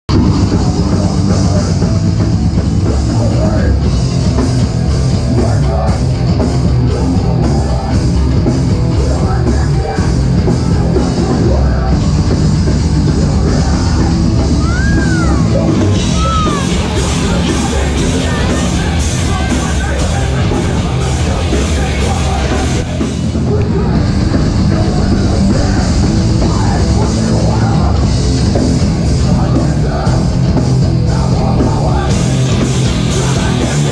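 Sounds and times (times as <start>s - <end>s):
metal band playing live: 0.1s - 33.9s.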